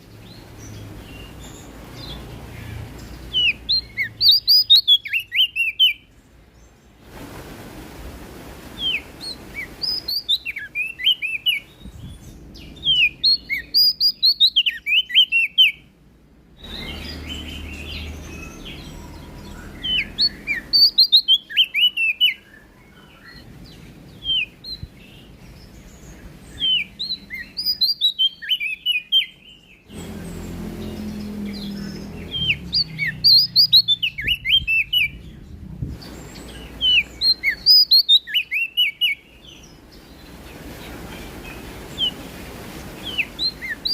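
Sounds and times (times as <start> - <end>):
bird chirping: 0.0 - 7.0, 8.8 - 43.9
faint background hiss: 0.0 - 43.9.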